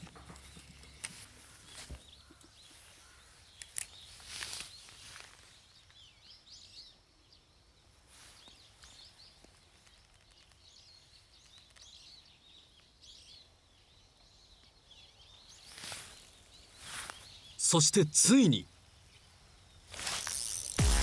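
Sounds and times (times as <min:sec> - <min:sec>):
faint bird chirps: 0:00.1 - 0:19.9.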